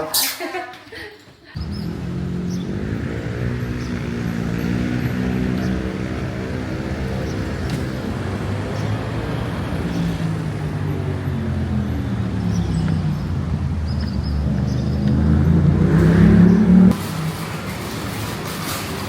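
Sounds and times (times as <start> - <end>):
traffic noise: 0.0 - 19.0
vehicle engine running: 1.6 - 19.0.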